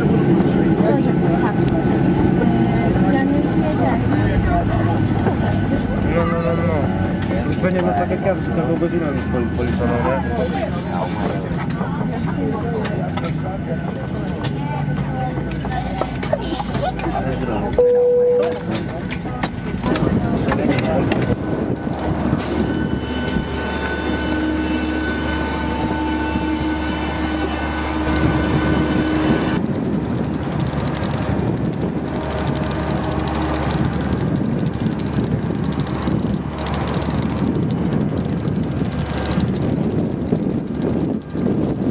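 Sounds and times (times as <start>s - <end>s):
low rumble: 0.0s - 41.9s
machinery hum and whine: 0.0s - 41.9s
outdoor noise: 0.0s - 41.9s.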